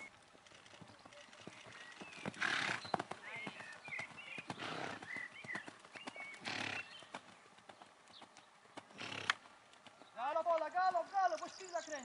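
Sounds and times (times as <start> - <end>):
horse hoofbeats on sand: 0.8 - 10.6.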